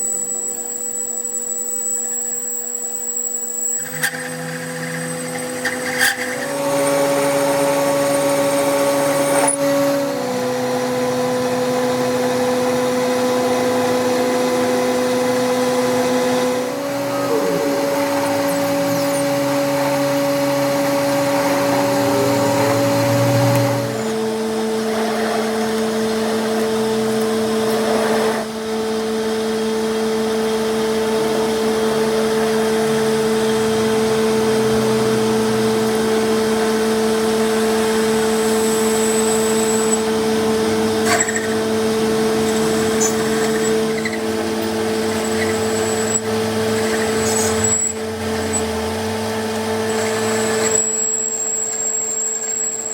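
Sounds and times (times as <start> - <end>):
machine humming: 0.0 - 52.9.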